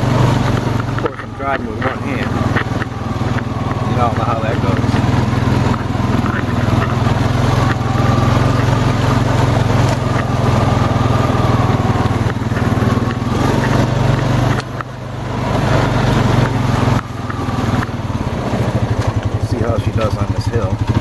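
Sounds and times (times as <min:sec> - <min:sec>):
atv engine running under load: 0:00.0 - 0:21.0.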